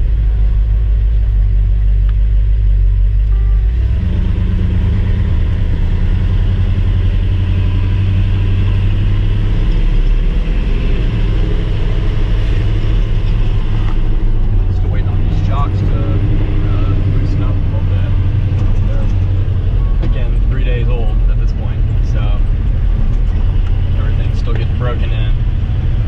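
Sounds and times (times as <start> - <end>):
truck engine accelerating: 0.0 - 26.0.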